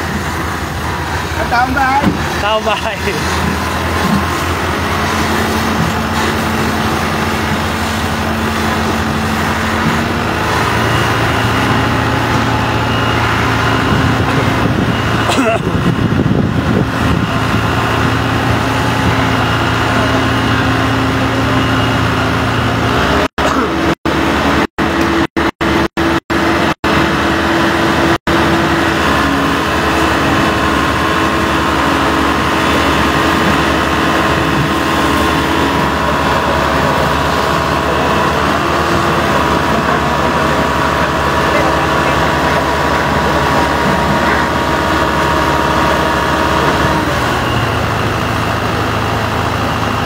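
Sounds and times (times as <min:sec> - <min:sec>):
fire truck engine running: 0:00.0 - 0:50.0.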